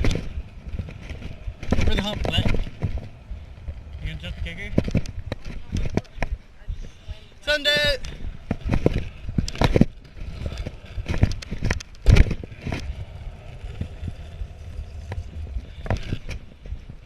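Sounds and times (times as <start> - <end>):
scooter wheels rolling on concrete: 0.0 - 17.0.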